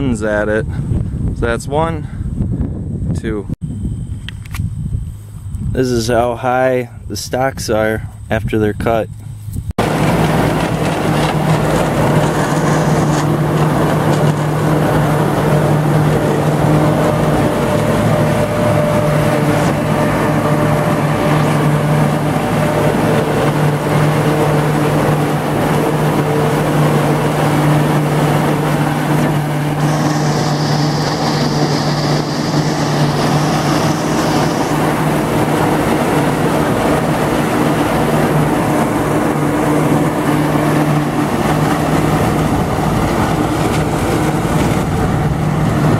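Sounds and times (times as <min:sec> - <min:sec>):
tractor and harvester drone: 0:00.0 - 0:45.9
low hum: 0:02.2 - 0:07.1, 0:08.1 - 0:45.9.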